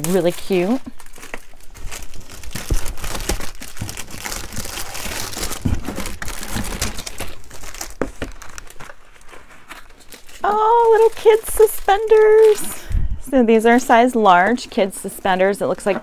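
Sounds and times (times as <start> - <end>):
plastic bags crinkling: 0.0 - 14.7.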